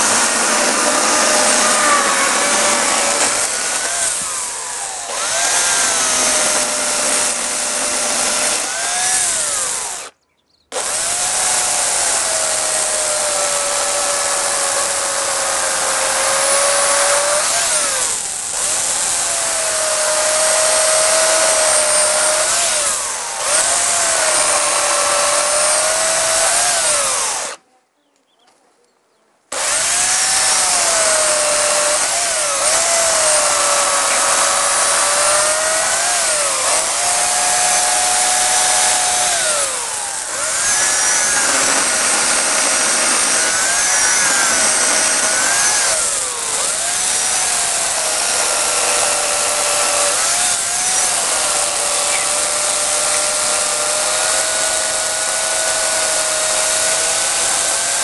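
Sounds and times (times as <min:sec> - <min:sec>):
electric chainsaw cutting log: 0:00.0 - 0:27.6, 0:29.5 - 0:58.0.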